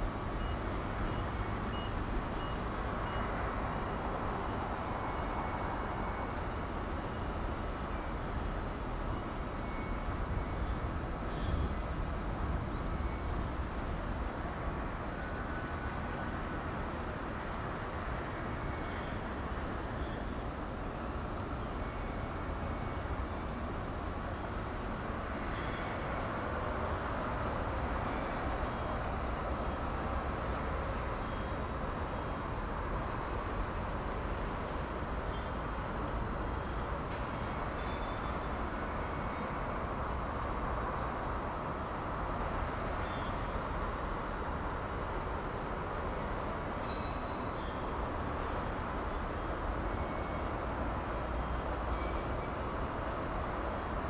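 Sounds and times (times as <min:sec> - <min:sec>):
outdoor background rumble: 0:00.0 - 0:54.0.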